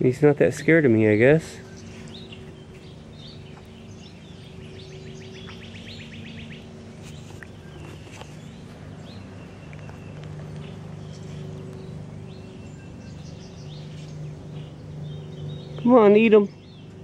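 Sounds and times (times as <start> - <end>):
low hum: 0.0 - 17.0
songbird trilling: 0.0 - 17.0
bird chirps: 1.4 - 17.0.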